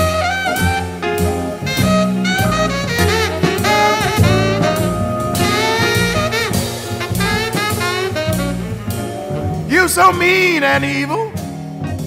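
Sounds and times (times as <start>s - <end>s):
saxophone lead line: 0.0s - 9.9s
bass: 0.0s - 12.0s
drums: 0.0s - 12.0s.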